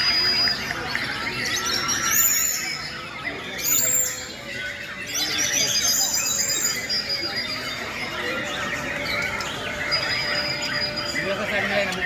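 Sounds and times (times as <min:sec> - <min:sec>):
birds singing whistles and chatter: 0:00.0 - 0:12.0.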